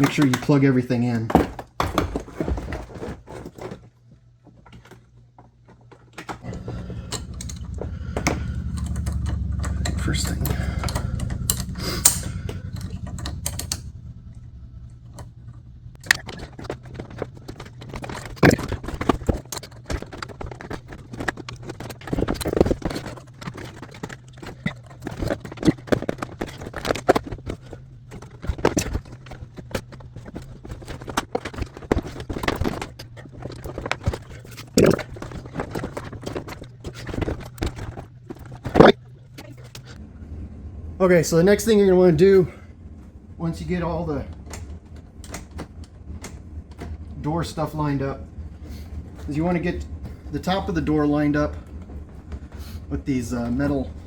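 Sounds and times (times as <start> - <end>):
car door parts clicking and rattling: 0.0 - 40.0, 44.3 - 54.0
steady low hum: 0.0 - 54.0.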